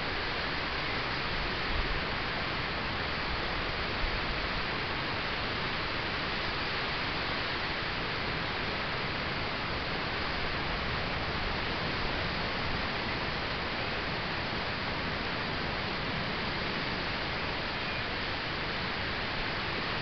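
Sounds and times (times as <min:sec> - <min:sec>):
microphone hiss: 0:00.0 - 0:20.0.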